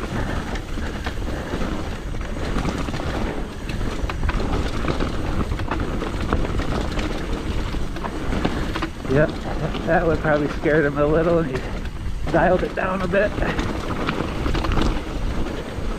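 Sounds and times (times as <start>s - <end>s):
bike chain and frame rattling: 0.0s - 15.9s
bike tyres on dirt: 0.0s - 15.9s
wind on microphone: 0.0s - 15.9s.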